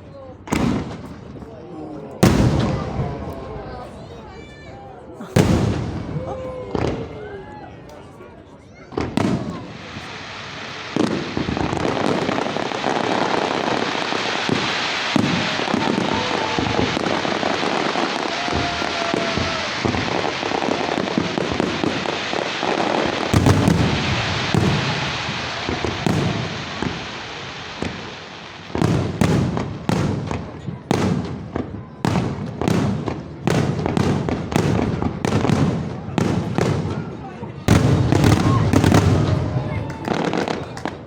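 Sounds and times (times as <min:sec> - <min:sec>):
fireworks bangs: 0:00.5 - 0:01.6, 0:02.2 - 0:07.5, 0:08.9 - 0:41.0
fireworks crackling: 0:00.5 - 0:04.8, 0:05.4 - 0:08.0, 0:08.9 - 0:41.0.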